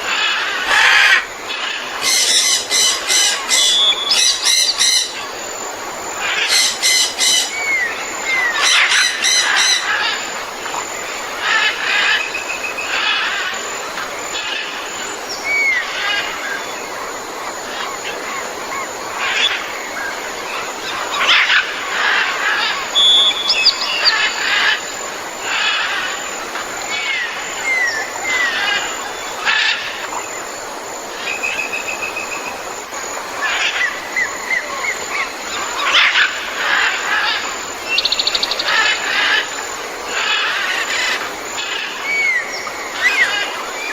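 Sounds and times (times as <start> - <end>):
birds calling and chirping: 0.0 - 43.9
steady background hiss: 0.0 - 43.9.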